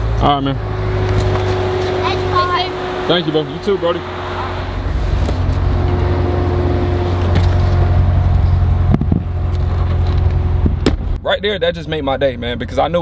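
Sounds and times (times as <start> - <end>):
car engine running: 0.0 - 13.0
road and wind noise: 0.0 - 13.0.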